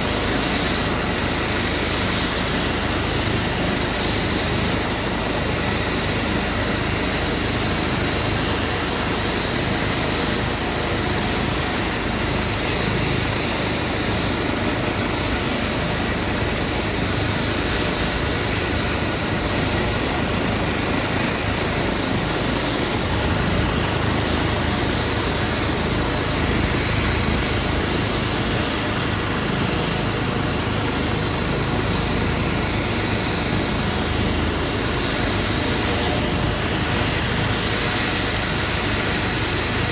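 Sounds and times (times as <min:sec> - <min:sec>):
helicopter turbines and rotors: 0:00.0 - 0:39.9.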